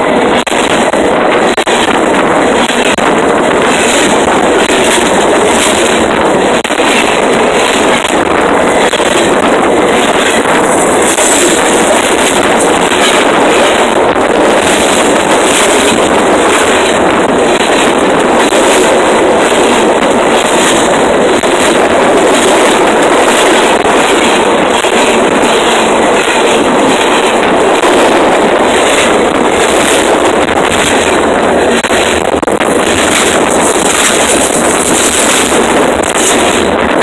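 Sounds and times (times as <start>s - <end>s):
train wheels rolling on rail: 0.0s - 37.0s.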